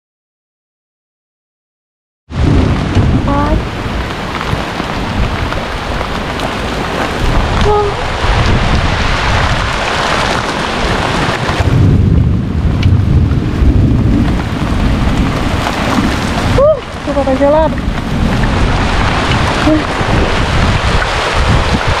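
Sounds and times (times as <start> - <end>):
heavy rain falling: 2.3 - 22.0
low rumble: 2.4 - 9.8, 10.7 - 22.0.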